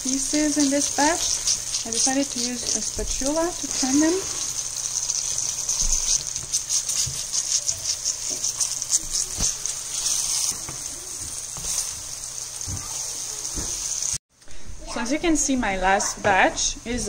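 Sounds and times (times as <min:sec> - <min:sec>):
fish sizzling in hot oil: 0:00.0 - 0:14.2.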